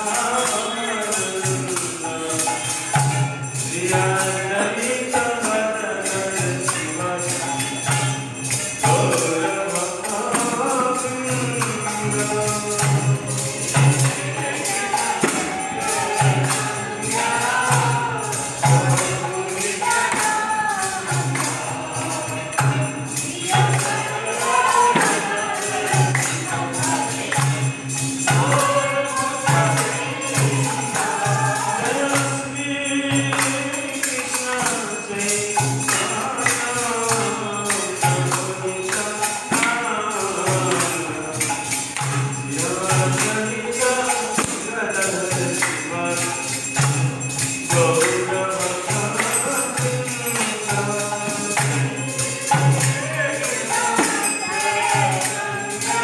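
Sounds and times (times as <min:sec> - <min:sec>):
group singing a chant: 0:00.0 - 0:56.0
hand cymbals clashing: 0:00.0 - 0:56.0.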